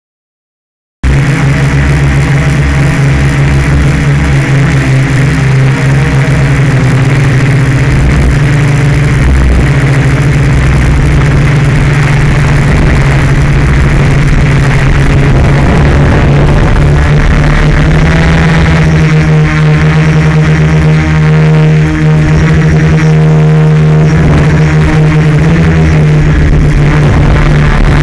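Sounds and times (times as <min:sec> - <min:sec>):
drone motors and propellers humming: 0:01.0 - 0:28.0.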